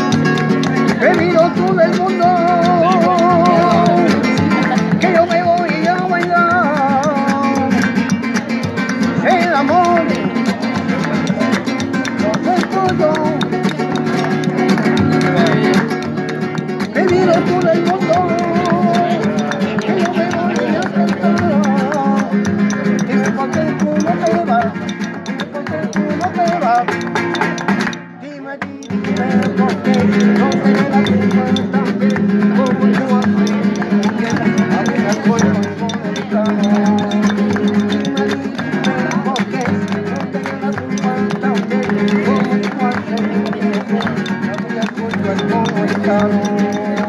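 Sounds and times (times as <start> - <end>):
hand clapping: 0.0 - 47.0
man singing: 0.0 - 47.0
nylon-string guitar strummed: 0.0 - 47.0.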